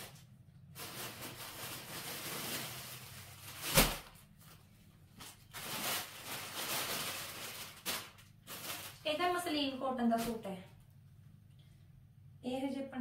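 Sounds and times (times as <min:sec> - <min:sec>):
fabric and plastic rustling: 0:00.0 - 0:10.8.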